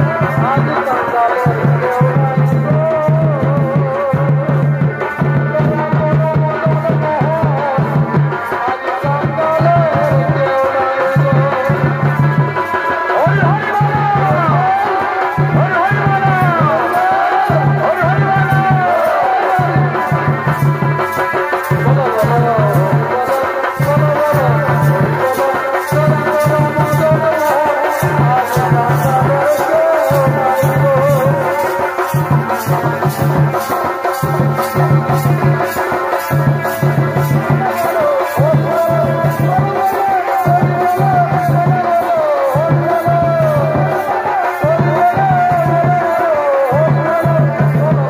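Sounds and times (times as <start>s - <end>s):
dhol drums beating: 0.0s - 48.0s
shehnai melody: 0.0s - 48.0s.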